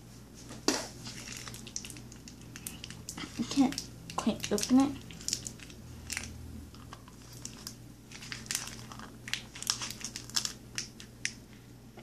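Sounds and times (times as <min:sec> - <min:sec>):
plastic bottle crinkling and clicking: 0:00.7 - 0:11.4.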